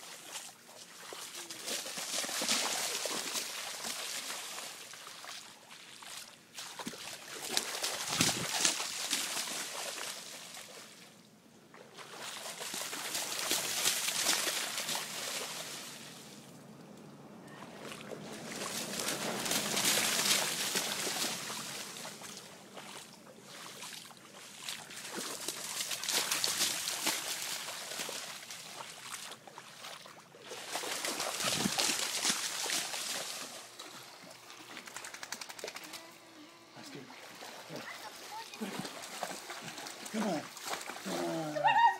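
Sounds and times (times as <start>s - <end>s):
dog splashing through water: 0.0s - 10.9s, 11.8s - 16.0s, 17.6s - 36.0s, 37.0s - 41.7s.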